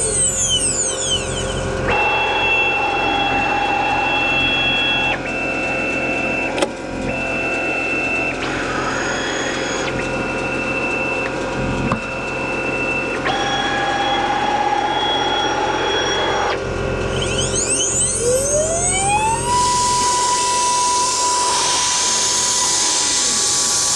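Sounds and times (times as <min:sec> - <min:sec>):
stepper motors whining: 0:00.0 - 0:23.9.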